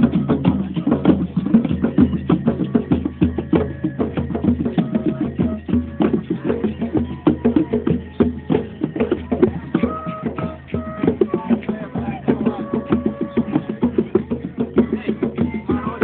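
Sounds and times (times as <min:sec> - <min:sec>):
hand drums beating: 0:00.0 - 0:16.0.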